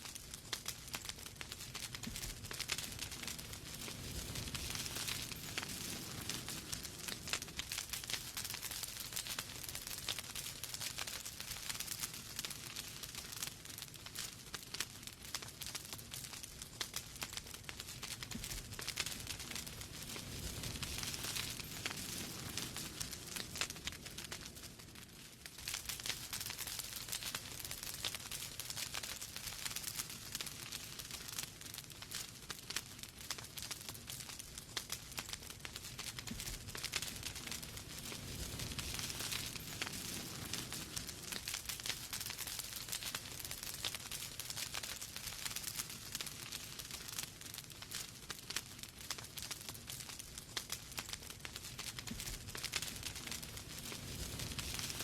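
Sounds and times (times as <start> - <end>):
low rumble of fire: 0.0 - 55.0
wood fire crackling and popping: 0.0 - 55.0.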